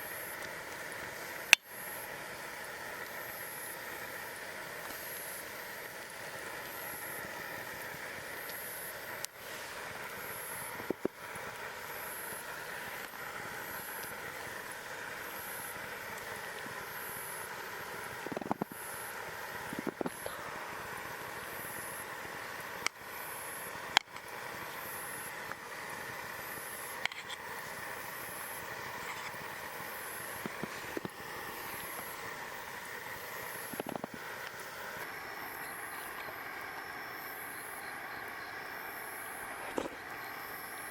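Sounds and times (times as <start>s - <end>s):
campfire crackling and popping: 0.0s - 38.3s.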